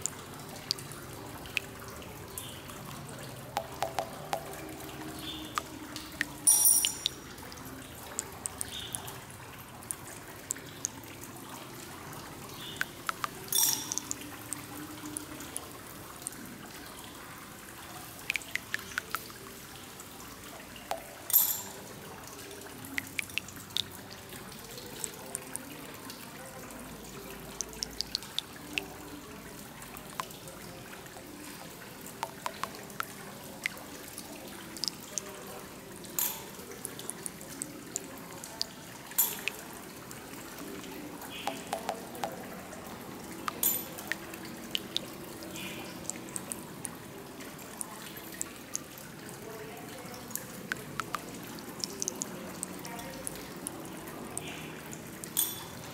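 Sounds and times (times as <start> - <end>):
fountain water trickling and splashing: 0.0 - 55.9
water drips: 0.0 - 55.9.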